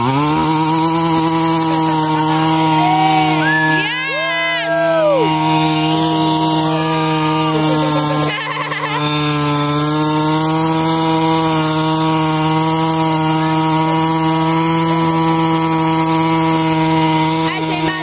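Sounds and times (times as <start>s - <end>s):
small motorbike engine running: 0.0s - 18.0s.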